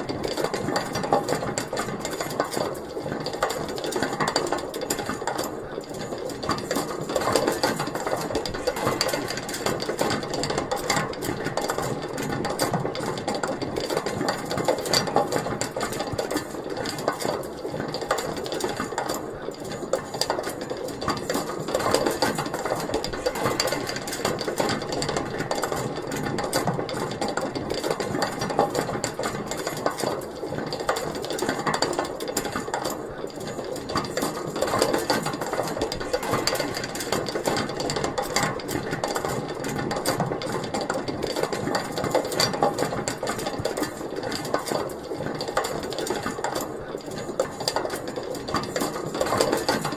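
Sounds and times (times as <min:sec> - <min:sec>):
pulley wheel rattling metallically: 0:00.0 - 0:49.9.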